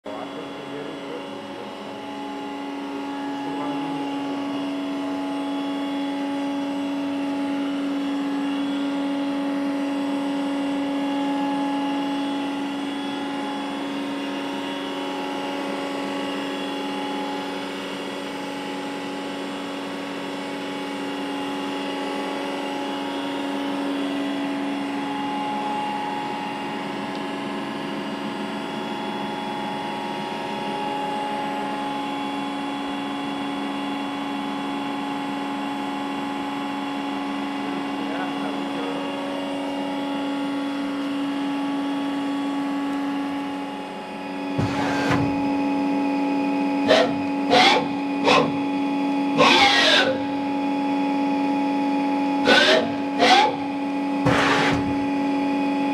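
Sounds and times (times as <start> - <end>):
lathe machine whine: 0.1 - 55.9.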